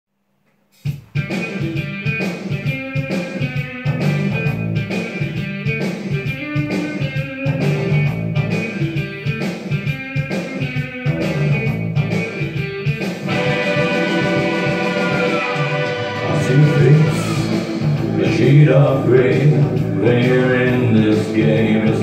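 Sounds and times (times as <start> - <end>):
guitar strumming over beat: 0.8 - 22.0.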